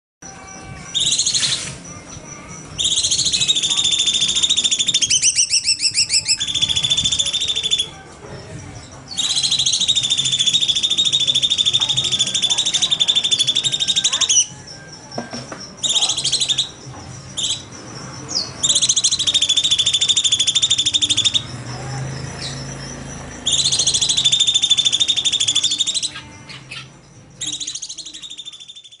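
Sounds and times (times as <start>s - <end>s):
bird rapid buzzing trill: 0.2s - 29.0s.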